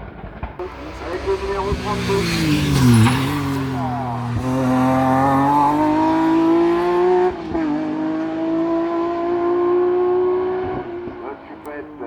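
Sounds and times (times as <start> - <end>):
race car engine accelerating: 0.6 - 12.0.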